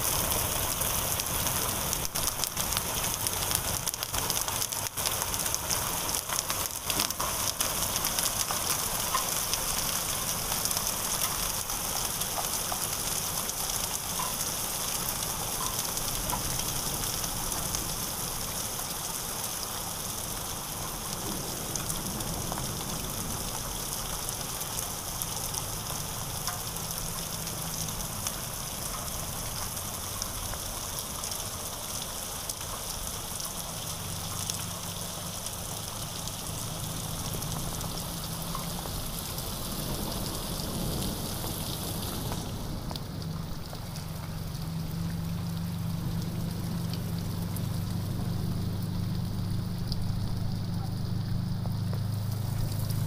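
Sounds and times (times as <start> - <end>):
heavy rain on mud and puddles: 0.0 - 53.0.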